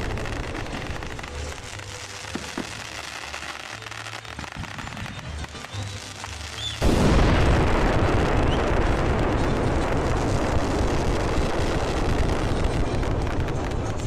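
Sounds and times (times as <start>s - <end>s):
fireworks barrage rumble and crackle: 0.0s - 14.0s.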